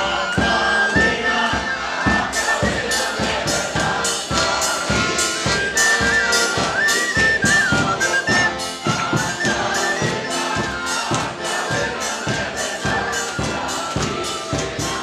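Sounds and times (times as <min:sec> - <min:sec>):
drum and cymbal beat: 0:00.0 - 0:15.0.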